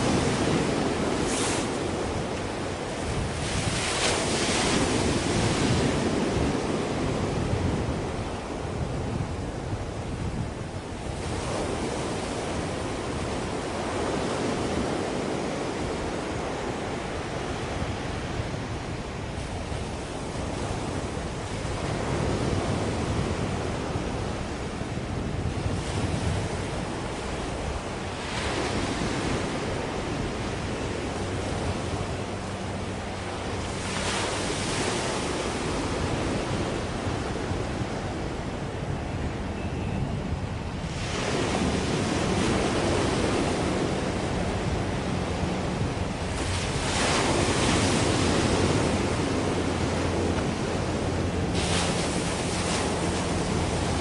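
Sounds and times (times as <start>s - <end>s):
sea waves washing in: 0.0s - 39.5s, 40.2s - 54.0s
wind buffeting microphone: 0.0s - 54.0s.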